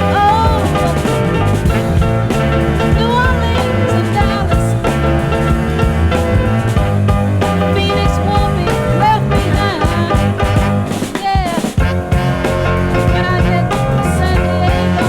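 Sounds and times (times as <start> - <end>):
funky soul music: 0.0 - 15.0
sliding bending high notes: 0.0 - 15.0.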